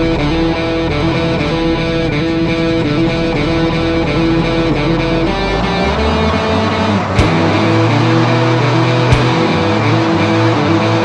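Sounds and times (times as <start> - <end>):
guitar background music: 0.0 - 11.0.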